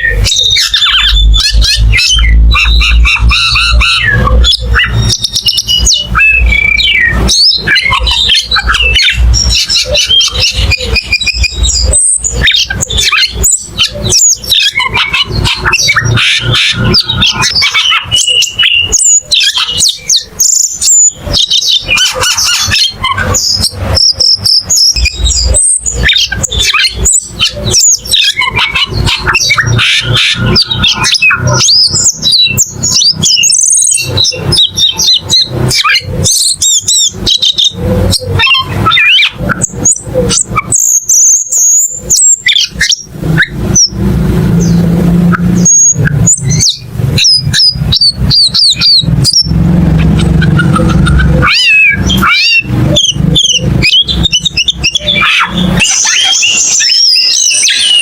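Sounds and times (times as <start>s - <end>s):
bird singing chirps and whistles: 0.0s - 58.0s.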